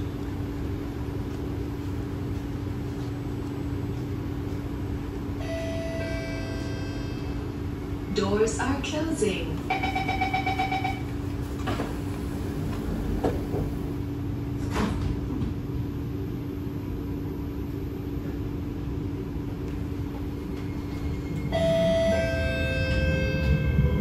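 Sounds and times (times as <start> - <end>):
train cabin rumble: 0.0 - 24.0.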